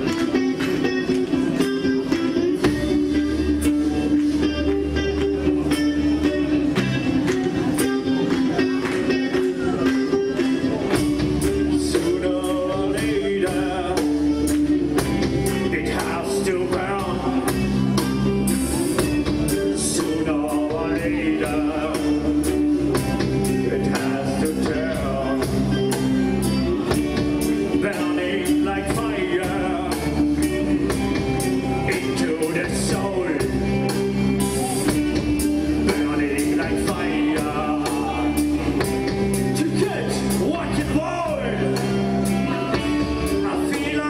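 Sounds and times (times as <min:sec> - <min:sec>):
song with singing and guitar: 0:00.0 - 0:44.0.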